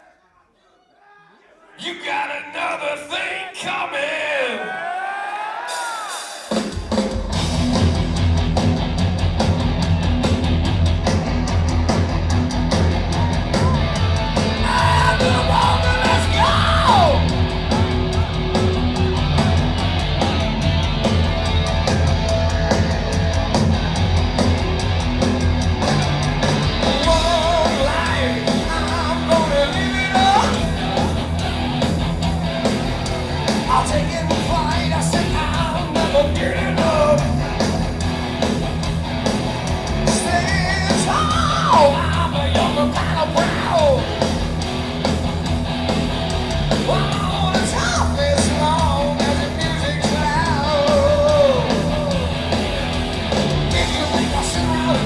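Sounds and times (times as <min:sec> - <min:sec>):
high yelled lead vocal: 0:00.0 - 0:06.9, 0:11.2 - 0:23.1, 0:25.8 - 0:39.2, 0:39.8 - 0:45.0, 0:46.6 - 0:55.0
heavy metal band playing: 0:05.6 - 0:55.0.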